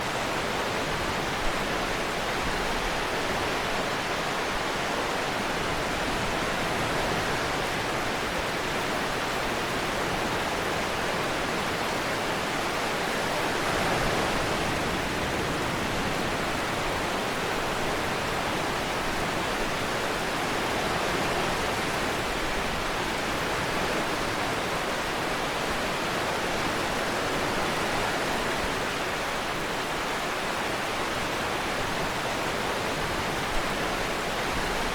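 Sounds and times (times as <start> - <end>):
ocean surf: 0.0 - 34.9.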